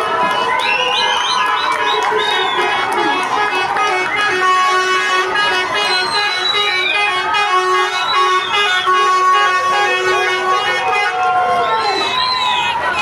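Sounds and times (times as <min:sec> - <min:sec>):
truck horns honking: 0:00.0 - 0:13.0.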